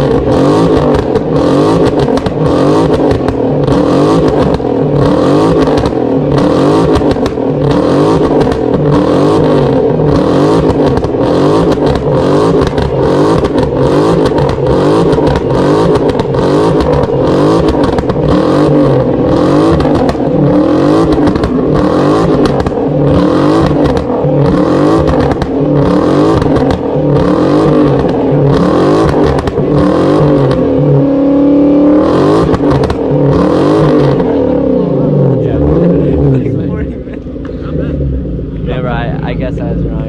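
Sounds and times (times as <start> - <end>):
car engine revving hard: 0.0 - 40.0.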